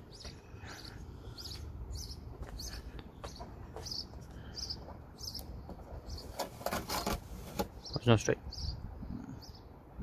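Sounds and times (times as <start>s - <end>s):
small bird chirping: 0.0s - 6.4s, 7.8s - 9.7s
faint outdoor background noise: 0.0s - 10.0s.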